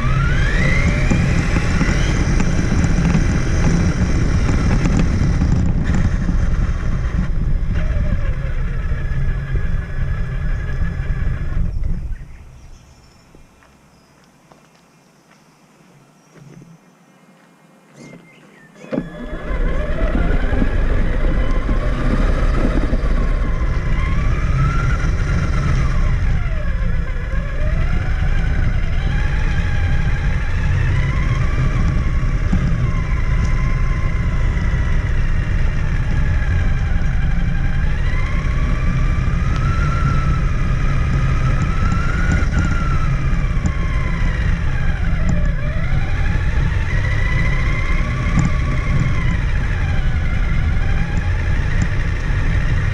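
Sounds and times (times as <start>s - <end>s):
electric motor whine: 0.0s - 13.7s, 15.8s - 52.9s.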